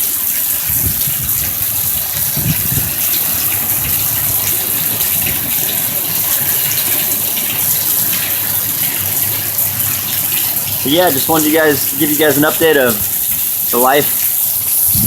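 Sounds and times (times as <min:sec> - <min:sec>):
floodwater rushing: 0:00.0 - 0:15.0
heavy rain: 0:00.0 - 0:15.0.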